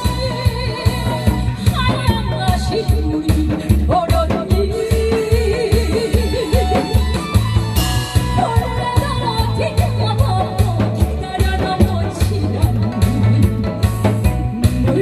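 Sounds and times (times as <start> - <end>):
backing track with drum beat: 0.0 - 15.0.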